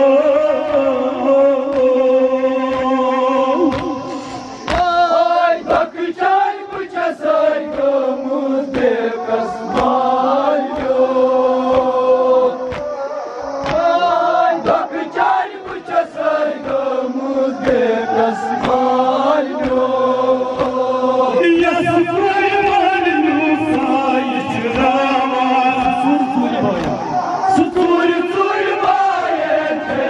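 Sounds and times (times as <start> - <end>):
men chanting in unison: 0.0 - 30.0.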